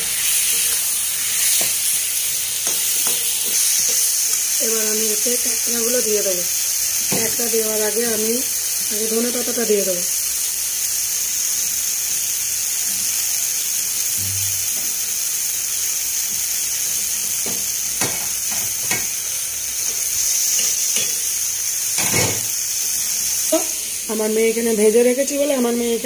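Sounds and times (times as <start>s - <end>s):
chicken sizzling in a wok: 0.0s - 26.0s.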